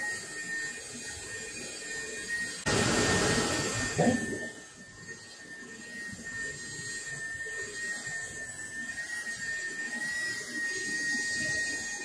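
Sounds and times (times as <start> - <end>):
rotary tool high whine: 0.0 - 12.0.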